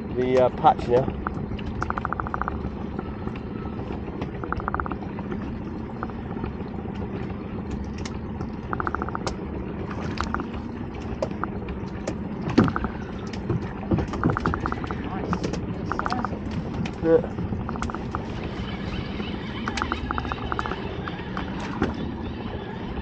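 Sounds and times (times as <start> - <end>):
boat engine hum and water wash: 0.0 - 23.0.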